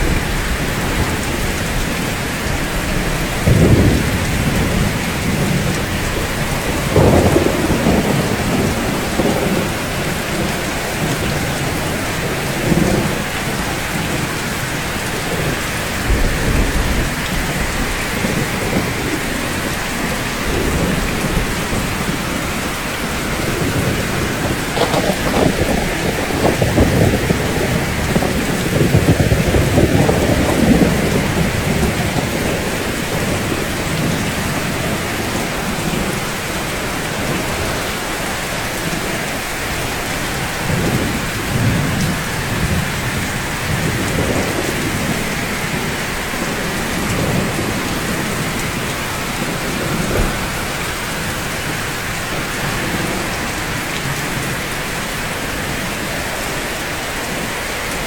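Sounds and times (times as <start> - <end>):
low rolling thunder: 0.0 - 58.0
steady rain: 0.0 - 58.0.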